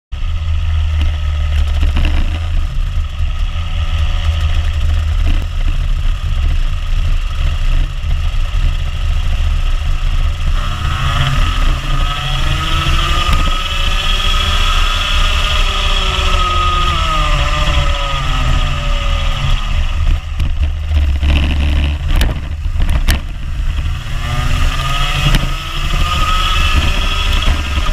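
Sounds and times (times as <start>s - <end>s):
heavy low rumble: 0.1s - 27.9s
kart engine running: 0.2s - 27.9s.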